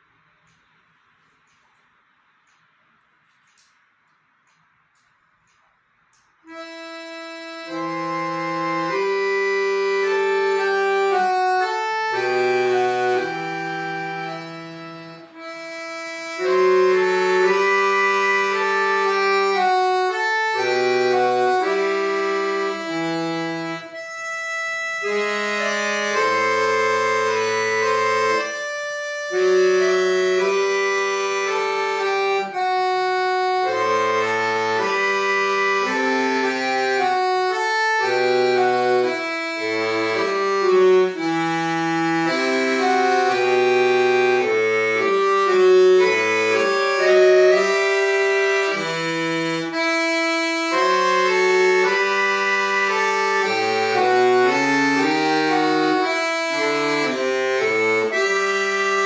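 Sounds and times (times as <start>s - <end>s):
accordion folk melody: 6.5s - 59.0s.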